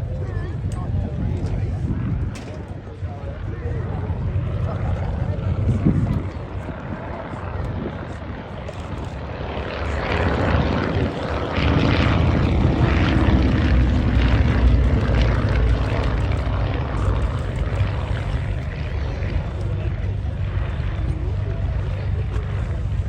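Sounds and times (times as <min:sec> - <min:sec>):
propeller plane flying past: 0:00.0 - 0:23.0.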